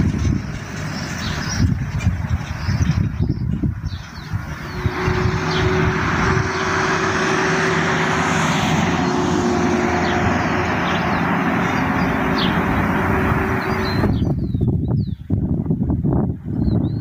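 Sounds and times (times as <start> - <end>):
engine humming steadily: 0.0 - 14.8.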